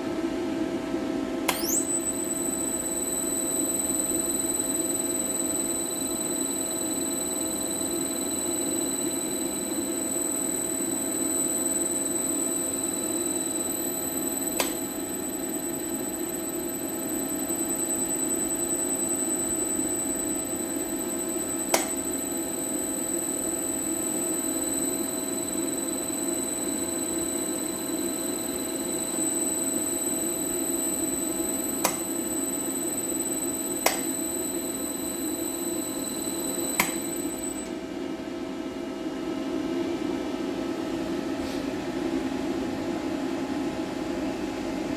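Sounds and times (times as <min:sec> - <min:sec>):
inverter electrical hum: 0:01.3 - 0:38.0
sharp clicks: 0:01.5 - 0:37.7.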